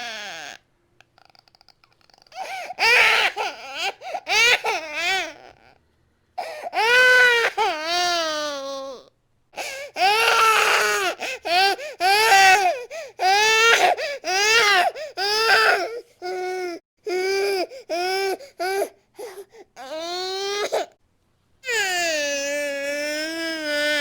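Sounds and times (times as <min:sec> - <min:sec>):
baby crying: 0:02.3 - 0:05.7, 0:06.4 - 0:20.9, 0:21.6 - 0:24.0.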